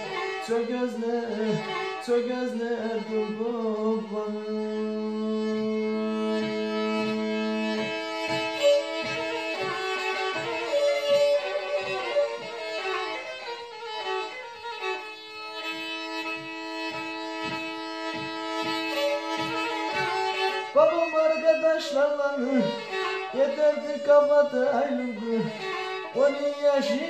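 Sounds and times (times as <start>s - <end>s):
bowed fiddle melody with drone: 0.0s - 27.0s.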